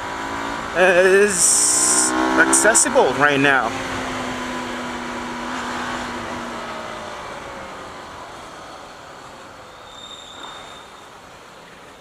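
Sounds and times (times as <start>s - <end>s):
motorcycle engine: 0.0s - 9.9s
road noise: 0.0s - 12.0s.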